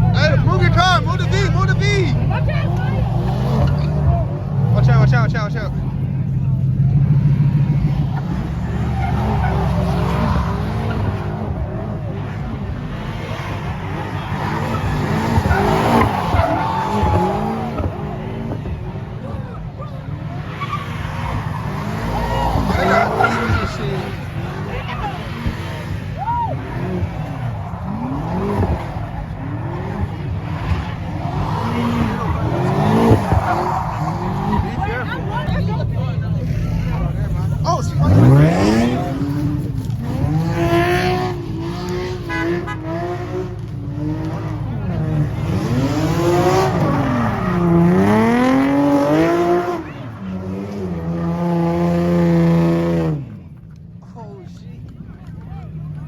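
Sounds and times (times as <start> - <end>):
car engine revving: 0.0 - 56.0
tires squealing: 0.0 - 56.0.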